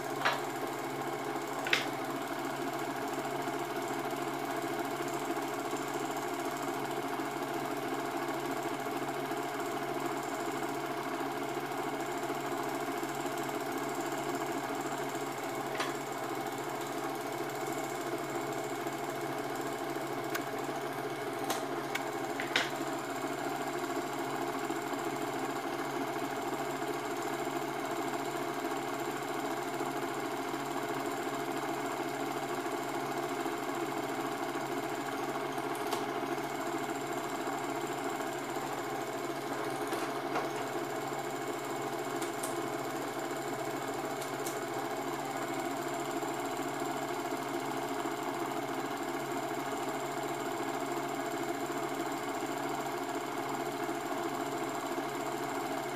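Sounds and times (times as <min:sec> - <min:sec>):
film projector clatter and whirr: 0:00.0 - 0:55.9.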